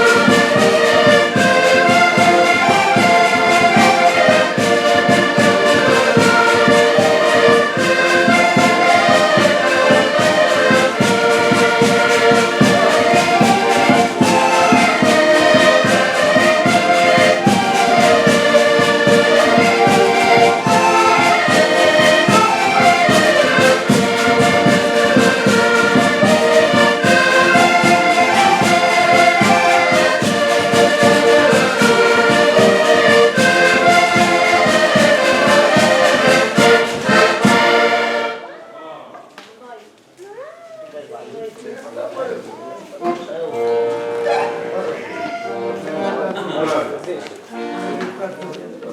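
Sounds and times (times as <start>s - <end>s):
live brass band music: 0.0s - 38.5s, 43.3s - 46.4s, 47.5s - 48.7s.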